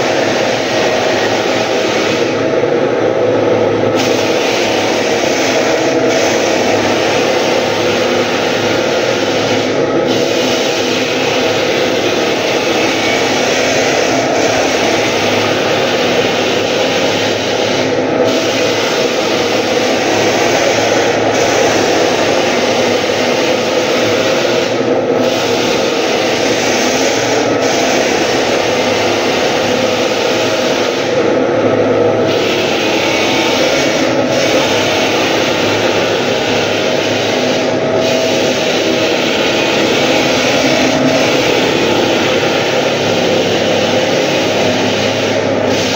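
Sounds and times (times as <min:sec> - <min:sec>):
floor sander sanding wood: 0:00.0 - 0:45.9.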